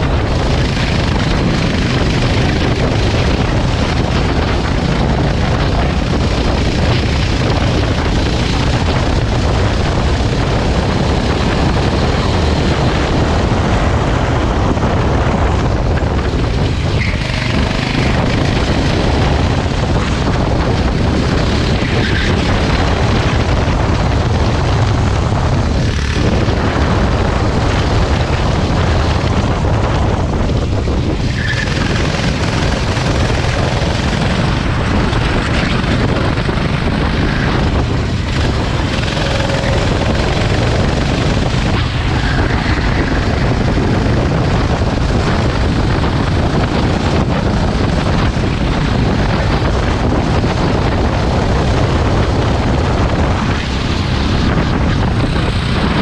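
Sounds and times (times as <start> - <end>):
kart engine drone: 0.0 - 56.0
wind rumble on microphone: 0.0 - 56.0.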